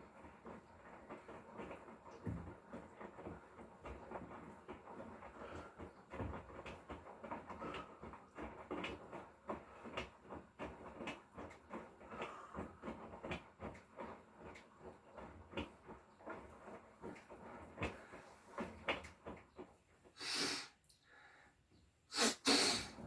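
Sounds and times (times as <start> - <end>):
load tumbling clicks and knocks: 0.0 - 20.2
washing machine running: 0.0 - 21.4, 22.5 - 23.0.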